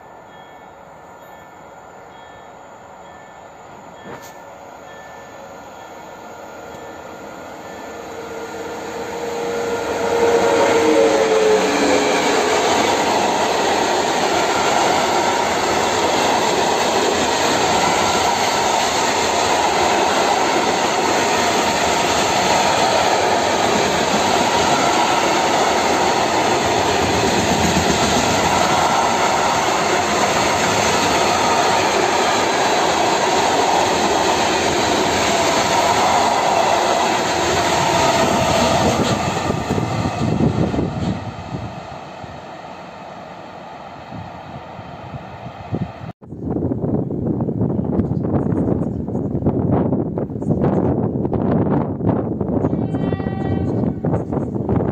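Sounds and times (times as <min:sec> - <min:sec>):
electric locomotive passing: 0:00.0 - 0:46.2, 0:47.0 - 0:54.9.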